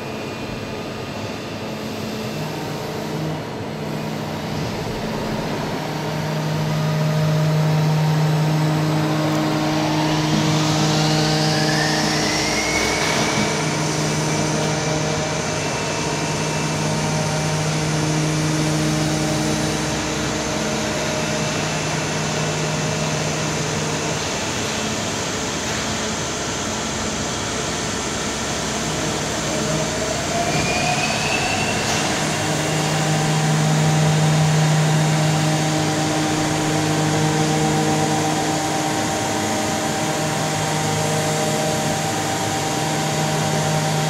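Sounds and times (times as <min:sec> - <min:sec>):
machine whine rising in pitch: 0:00.0 - 0:44.0
boring mill low hum: 0:00.1 - 0:30.8, 0:31.6 - 0:44.0.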